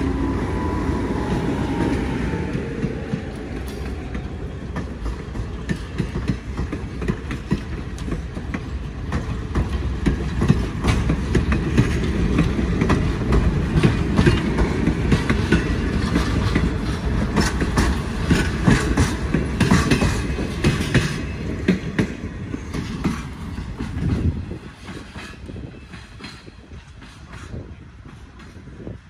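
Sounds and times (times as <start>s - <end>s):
train wheels clicking over rail joints: 0.0s - 29.0s.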